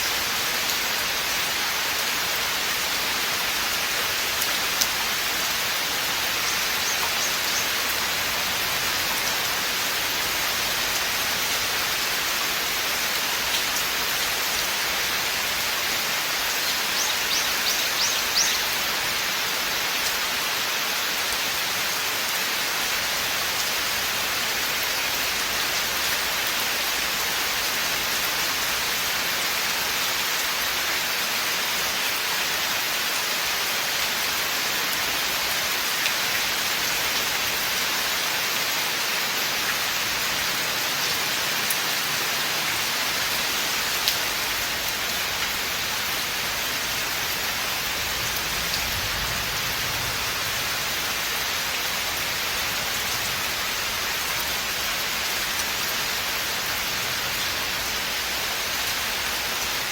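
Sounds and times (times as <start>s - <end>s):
rain falling through foliage: 0.0s - 59.9s.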